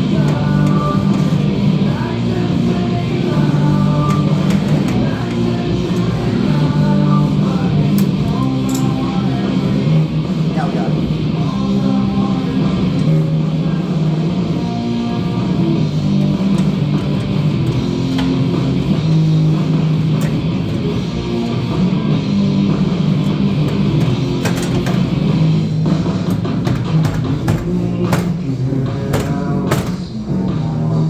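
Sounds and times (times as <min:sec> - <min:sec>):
rock music on a radio: 0:00.0 - 0:31.0.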